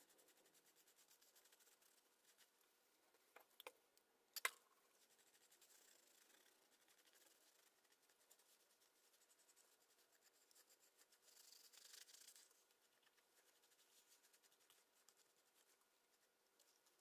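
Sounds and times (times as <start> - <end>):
cloth rubbing on plastic model: 0.0 - 2.6, 5.0 - 17.0.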